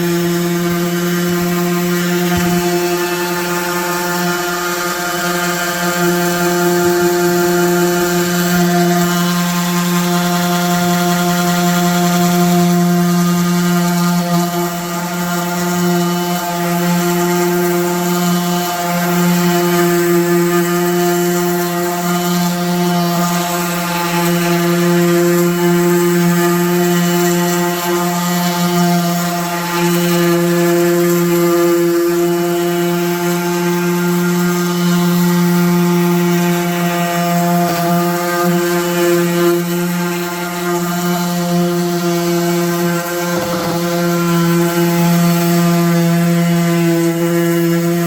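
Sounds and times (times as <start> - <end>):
sander sanding wood: 0.0 - 48.0.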